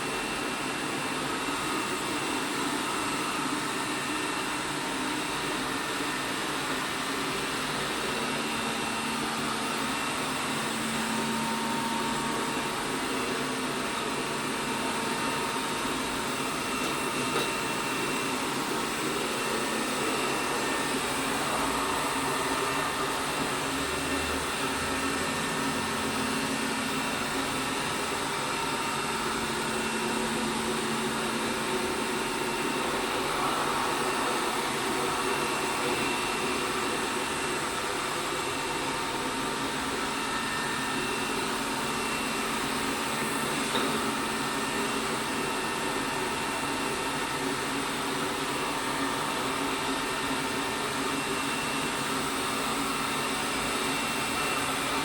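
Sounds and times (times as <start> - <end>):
robot vacuum cleaner whirring: 0.0 - 55.0.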